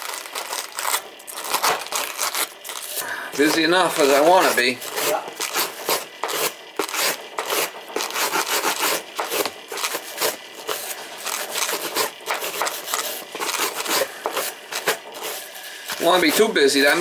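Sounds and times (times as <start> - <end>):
wire brush scrubbing metal: 2.3 - 17.0.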